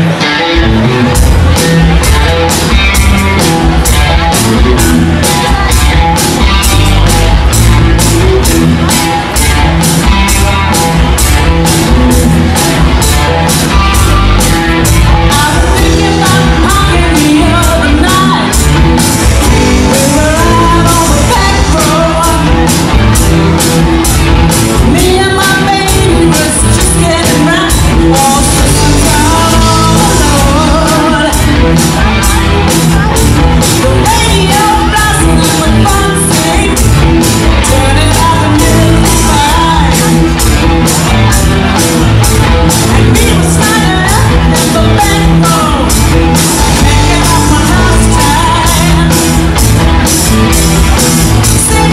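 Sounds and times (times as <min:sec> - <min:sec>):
bass guitar: 0:00.0 - 0:51.9
electric guitars: 0:00.0 - 0:51.9
person singing: 0:00.0 - 0:51.9
drum beat: 0:00.8 - 0:51.9.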